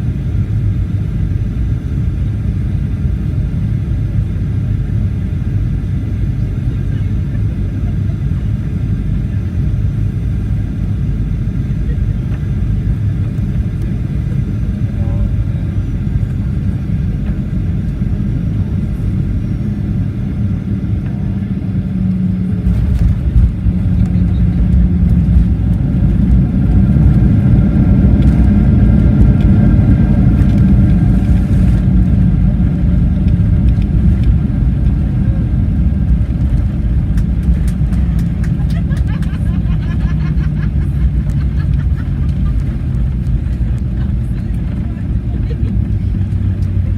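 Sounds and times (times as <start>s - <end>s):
airplane engines and airflow rumble: 0.0s - 46.9s.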